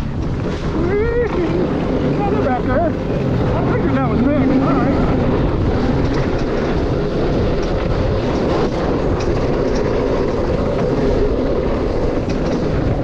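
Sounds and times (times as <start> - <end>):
dirt bike engine running: 0.0 - 13.0
wind noise on microphone: 0.0 - 13.0.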